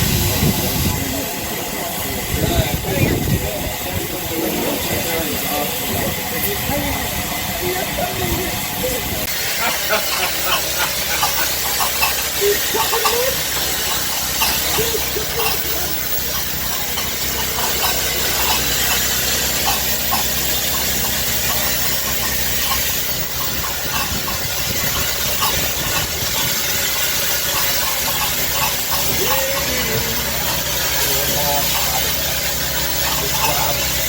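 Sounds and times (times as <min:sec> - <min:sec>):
steam hissing: 0:00.0 - 0:34.0.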